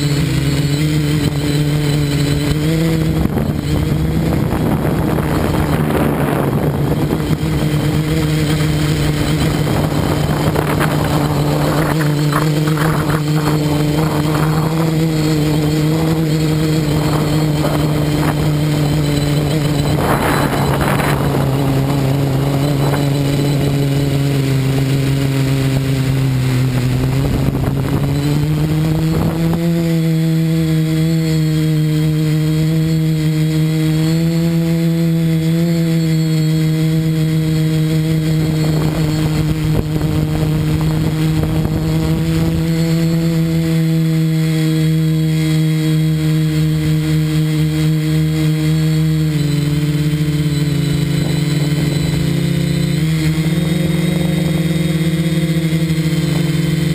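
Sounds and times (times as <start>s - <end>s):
drone propellers humming: 0.0s - 56.9s.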